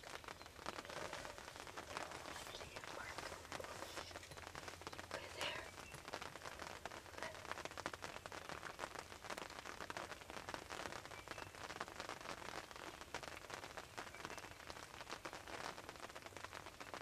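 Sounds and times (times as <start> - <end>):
light rain on fabric roof: 0.0 - 17.0.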